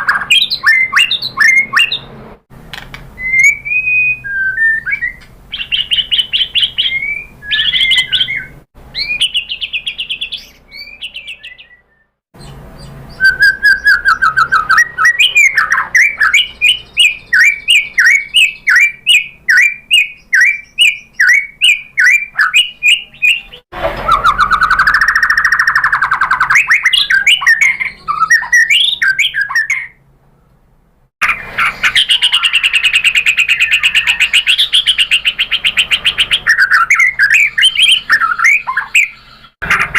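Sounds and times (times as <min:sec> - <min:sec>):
bird singing whistled phrases: 0:00.0 - 0:02.1, 0:03.2 - 0:30.0, 0:31.2 - 0:39.6.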